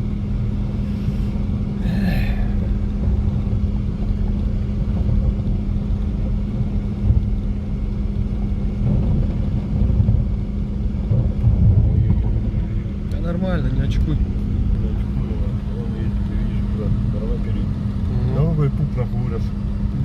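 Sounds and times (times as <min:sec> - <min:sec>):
rumble of driving over rough ground: 0:00.0 - 0:20.0
vehicle engine running: 0:00.0 - 0:20.0.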